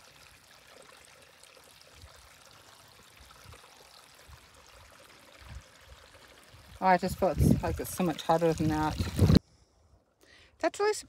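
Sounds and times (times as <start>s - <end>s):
water trickling from pipe: 0.0s - 9.4s.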